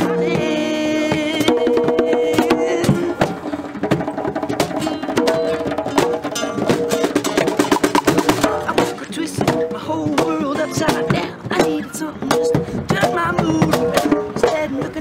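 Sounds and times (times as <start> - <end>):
acoustic guitar: 0.0 - 15.0
hand drums slapped: 1.2 - 15.0.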